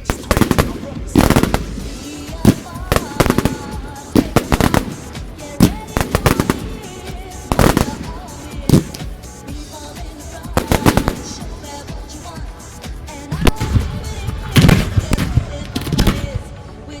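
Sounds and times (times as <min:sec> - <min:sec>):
fireworks bursting with bangs: 0:00.0 - 0:16.5
fireworks crackling: 0:00.0 - 0:16.6
music playing: 0:00.0 - 0:17.0.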